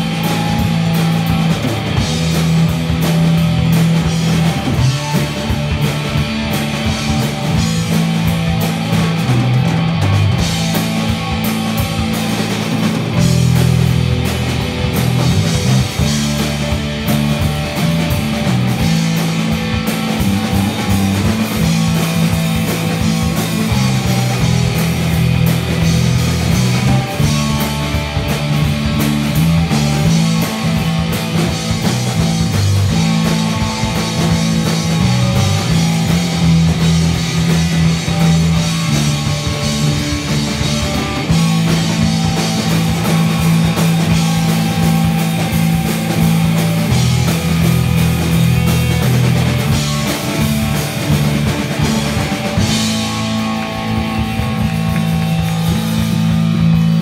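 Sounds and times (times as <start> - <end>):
bass line: 0.0 - 57.0
drums and cymbals: 0.0 - 57.0
electric guitar: 0.0 - 57.0.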